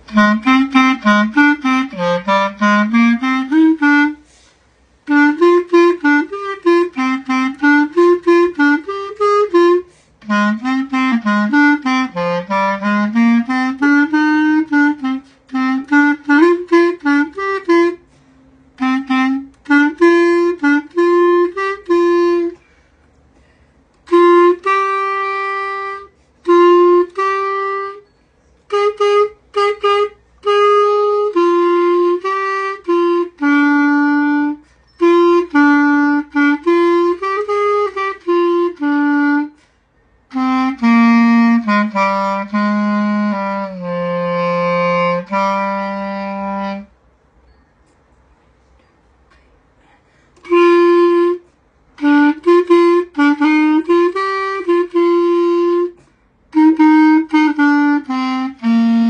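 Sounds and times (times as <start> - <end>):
solo clarinet melody: 0.0 - 22.7, 23.9 - 47.0, 50.4 - 59.0.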